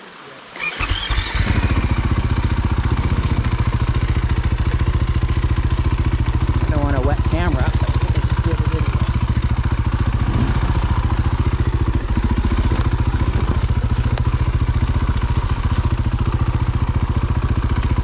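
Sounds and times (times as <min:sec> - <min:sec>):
dirt bike engine idling: 0:00.6 - 0:18.0.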